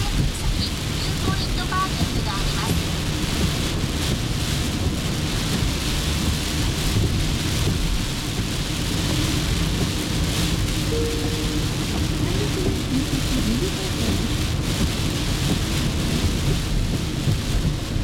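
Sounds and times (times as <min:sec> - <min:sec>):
heavy rain drumming on car roof: 0:00.0 - 0:18.0
low cabin rumble: 0:00.0 - 0:18.0.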